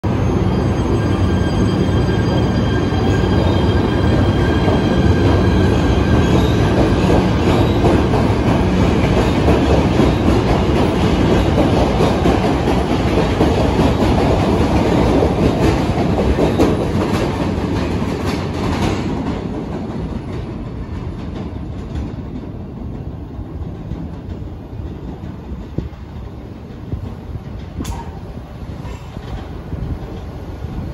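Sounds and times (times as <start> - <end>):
subway train running past: 0.0 - 30.9.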